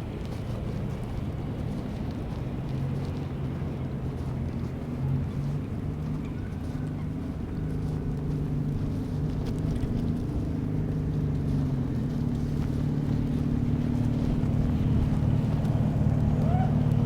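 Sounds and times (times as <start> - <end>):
large vehicle engine hum: 0.0 - 17.0.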